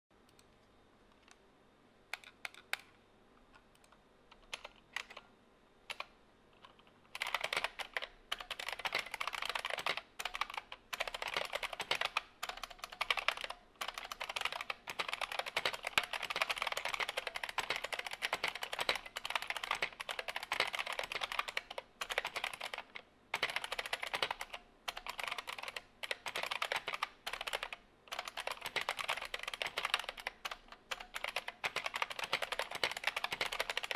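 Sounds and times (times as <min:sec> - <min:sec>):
mechanical keyboard typing: 0:02.1 - 0:03.0, 0:03.6 - 0:05.3, 0:05.9 - 0:33.9.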